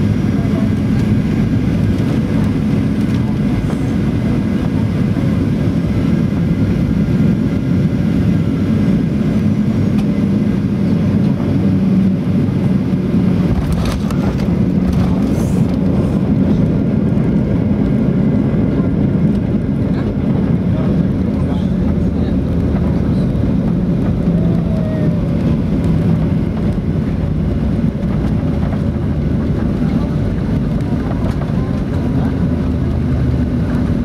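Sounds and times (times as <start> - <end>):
airplane cabin engine drone: 0.0 - 34.0
wheels rumbling on runway: 0.0 - 34.0.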